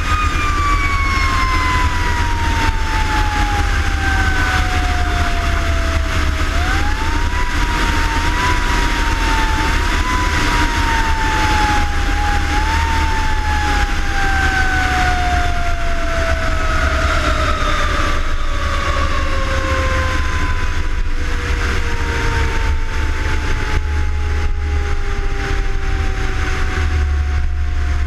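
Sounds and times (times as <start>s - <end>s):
heavy engine and road rumble: 0.0s - 28.0s.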